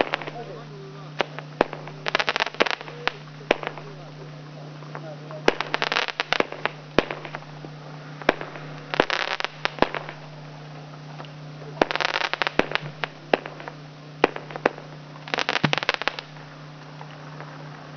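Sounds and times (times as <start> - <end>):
fireworks bangs and crackling: 0.0 - 17.9
steady low hum: 0.0 - 17.9.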